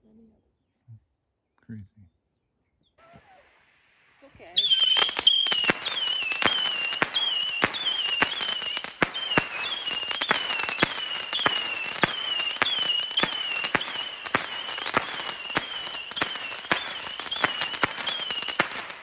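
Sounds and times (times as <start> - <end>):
whistling firework shots: 3.0 - 19.0.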